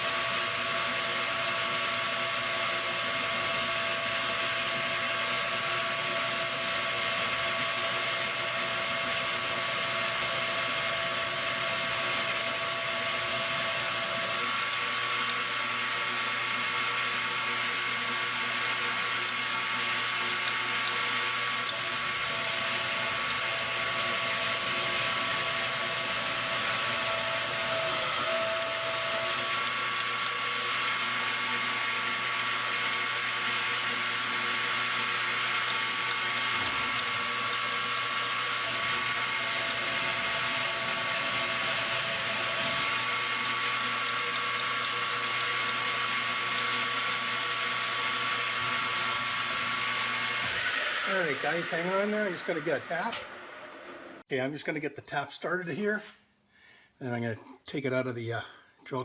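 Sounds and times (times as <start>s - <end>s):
metal lathe whining: 0.0s - 54.2s.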